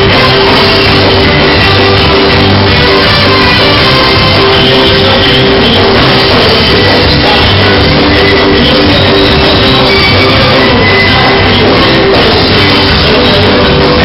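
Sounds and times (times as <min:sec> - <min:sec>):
live band music with guitar: 0:00.0 - 0:14.0.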